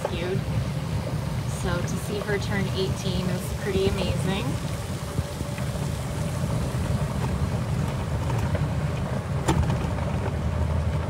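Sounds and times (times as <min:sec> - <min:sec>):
vehicle rolling on pavement: 0:00.0 - 0:11.0.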